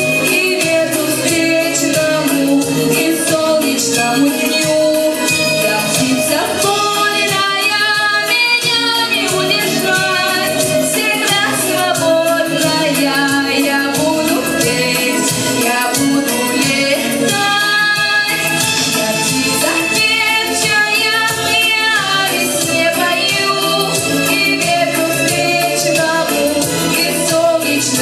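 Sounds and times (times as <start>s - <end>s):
backing track with percussion: 0.0s - 28.0s
woman singing pop song: 0.0s - 28.0s.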